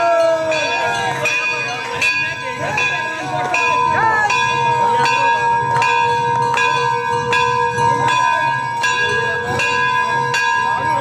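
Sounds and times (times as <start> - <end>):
large brass bell ringing: 0.0 - 11.0.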